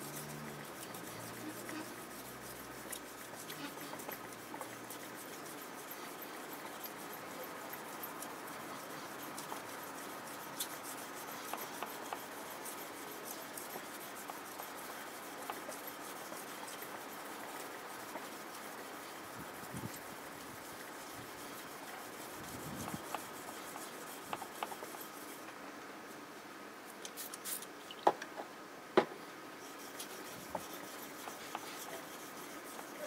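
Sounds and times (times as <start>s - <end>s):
knife scraping on whetstone: 0.0s - 25.4s, 29.6s - 33.0s.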